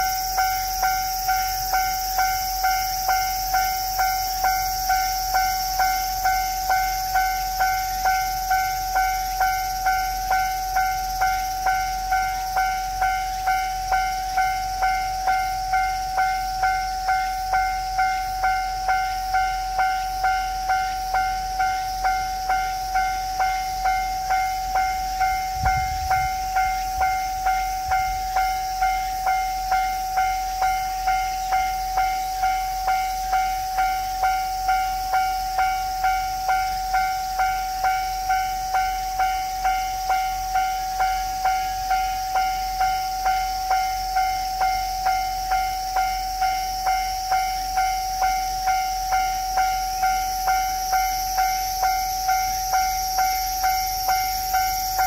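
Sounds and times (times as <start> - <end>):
level-crossing warning bell: 0.0 - 55.0.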